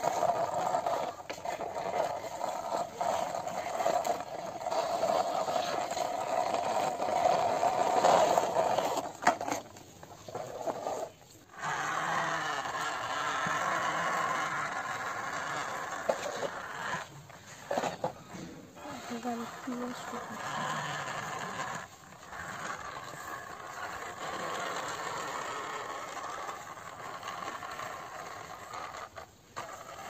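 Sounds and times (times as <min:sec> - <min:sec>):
toy car rolling on concrete: 0:00.0 - 0:30.0
toy excavator tracks scraping: 0:00.0 - 0:30.0.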